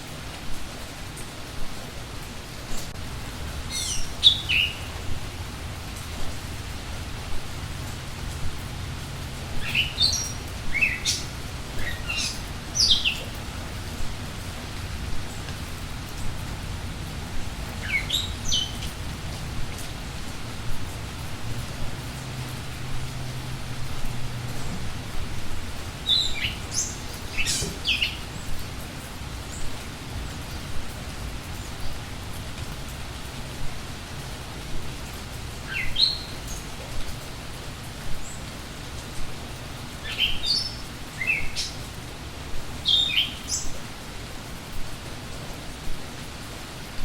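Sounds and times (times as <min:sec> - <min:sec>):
steady rain: 0:00.0 - 0:47.0
songbirds chirping: 0:02.0 - 0:44.2.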